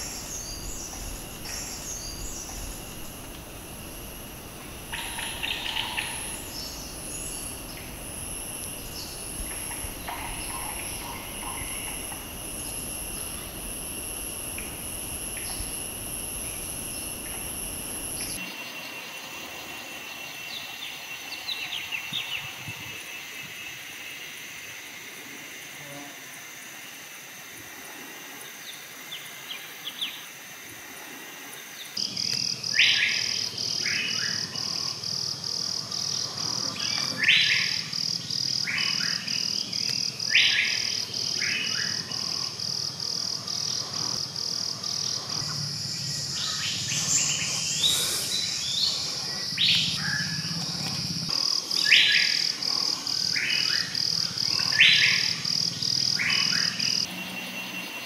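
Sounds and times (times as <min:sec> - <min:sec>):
pulsing high-pitched insect trill: 0:00.0 - 0:58.0.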